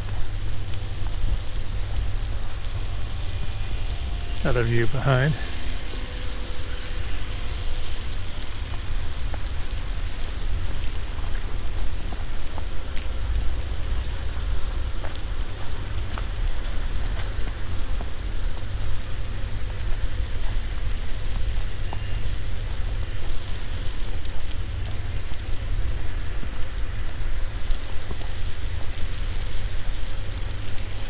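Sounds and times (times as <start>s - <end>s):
faint ticks: 0.0s - 4.4s, 5.3s - 31.0s
falling snow and sleet hiss: 0.0s - 31.0s.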